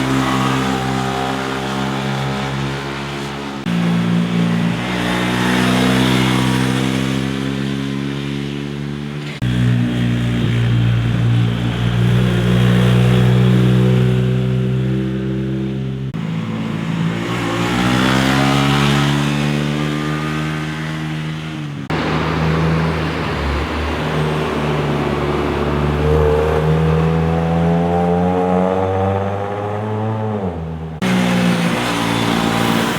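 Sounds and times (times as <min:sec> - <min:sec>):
motorcycle engines accelerating: 0:00.0 - 0:32.9.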